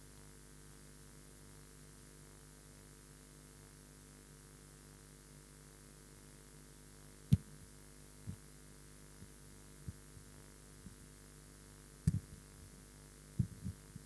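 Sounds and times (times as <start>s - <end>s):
mains hum: 0.0s - 14.0s.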